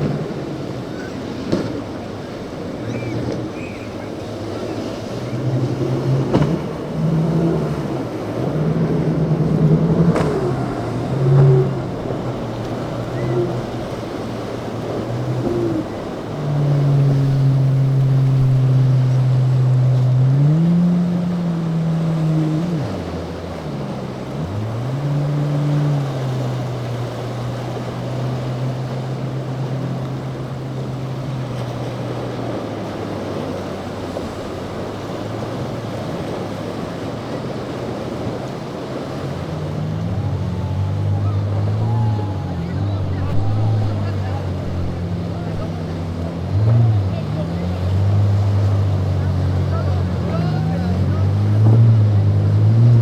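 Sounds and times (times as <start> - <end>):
motorboat engine running: 0.0 - 53.0
surf: 0.0 - 53.0
wind: 0.0 - 53.0.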